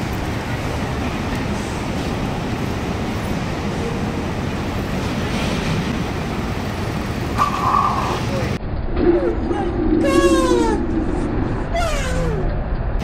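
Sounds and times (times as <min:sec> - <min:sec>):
heavy road traffic rumble: 0:00.0 - 0:13.0.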